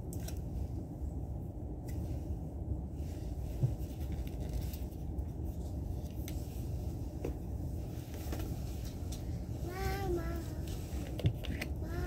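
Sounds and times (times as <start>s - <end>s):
train carriage rumble: 0.6s - 12.0s.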